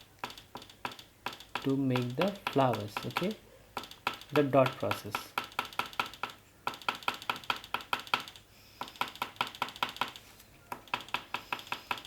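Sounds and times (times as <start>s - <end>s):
pastel tapping on paper: 0.2s - 12.0s.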